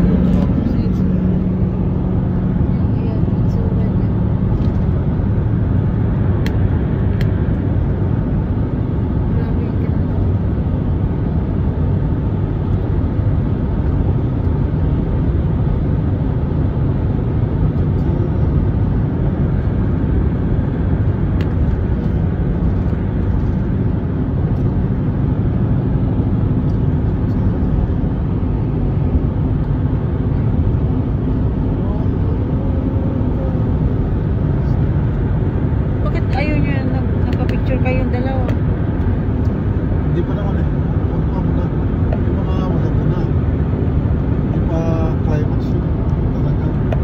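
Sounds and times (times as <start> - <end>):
car road noise at speed: 0.0 - 47.0.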